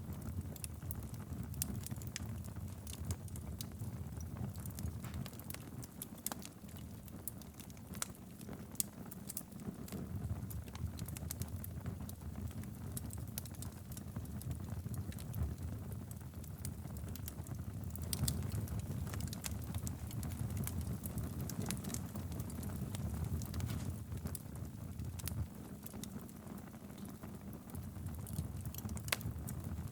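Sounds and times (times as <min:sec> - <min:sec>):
burning logs crackling and popping: 0:00.0 - 0:29.9
low rumble of flames: 0:00.0 - 0:29.9.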